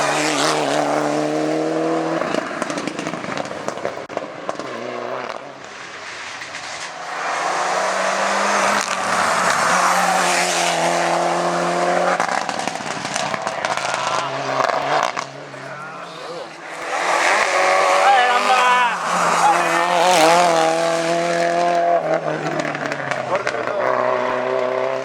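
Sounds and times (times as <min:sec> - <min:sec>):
race car engine at high revs: 0:00.0 - 0:25.0.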